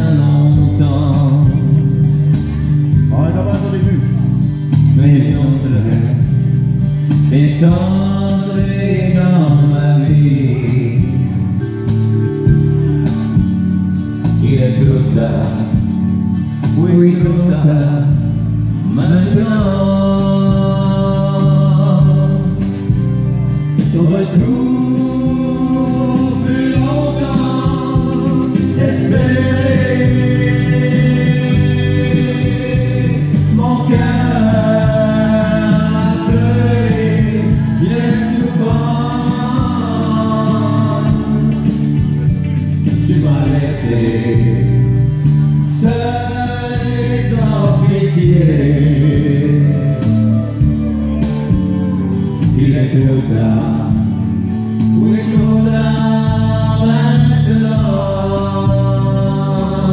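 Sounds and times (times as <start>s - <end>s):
man singing country song: 0.0s - 12.2s, 14.1s - 59.9s
instrumental accompaniment: 0.0s - 59.9s.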